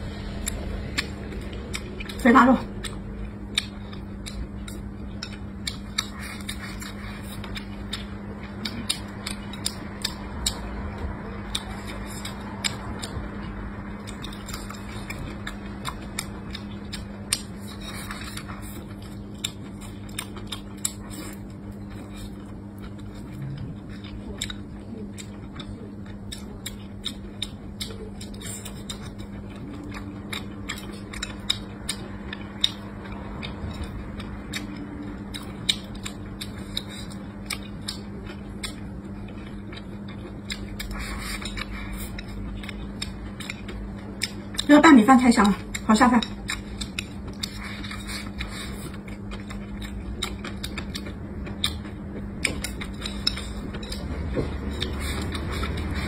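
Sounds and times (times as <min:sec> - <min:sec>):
low hum: 0:00.0 - 0:56.0
chewing with lip smacks: 0:00.2 - 0:44.7, 0:45.3 - 0:56.0.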